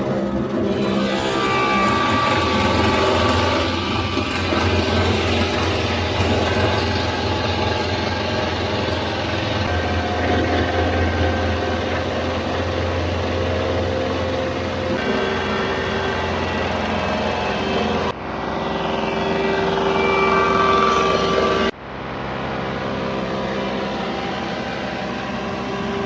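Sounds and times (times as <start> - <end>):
planer motor hum: 0.0 - 26.0.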